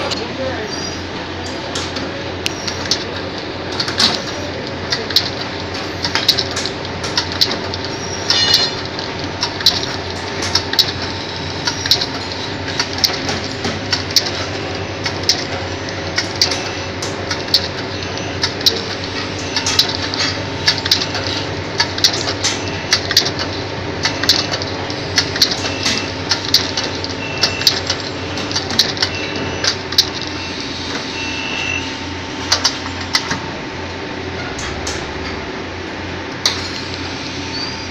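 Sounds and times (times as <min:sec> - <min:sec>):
machine mechanical hum: 0:00.0 - 0:37.9.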